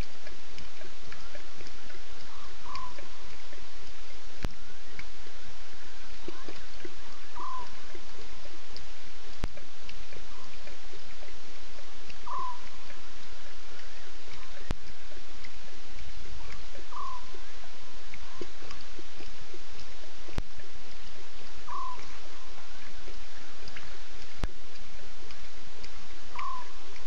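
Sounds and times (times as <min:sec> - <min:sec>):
night insects hissing: 0:00.8 - 0:09.4, 0:10.3 - 0:27.0.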